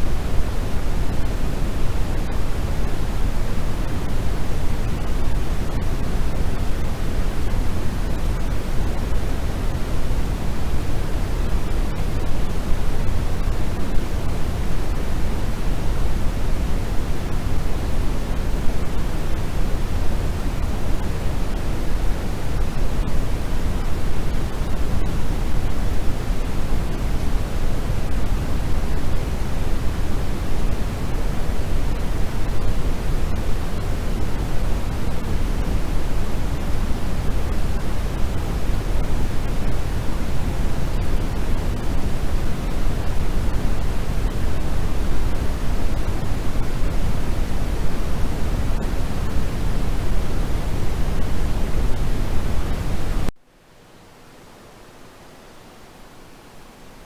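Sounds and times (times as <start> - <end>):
steady pink noise hiss: 0.0 - 57.0.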